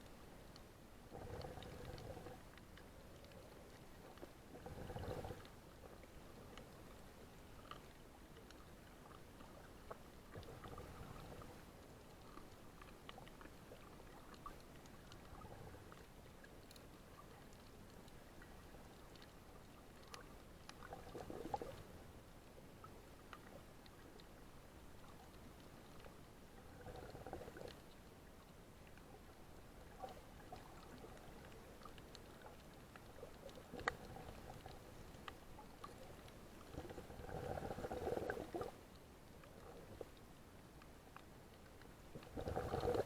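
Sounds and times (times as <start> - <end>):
muffled water gurgling: 0.0 - 43.0.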